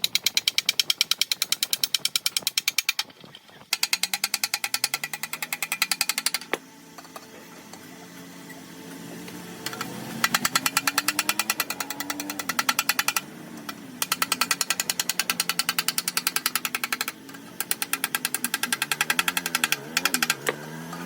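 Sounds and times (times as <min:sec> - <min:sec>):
rapid machine hammering: 0:00.0 - 0:07.2, 0:09.6 - 0:21.0.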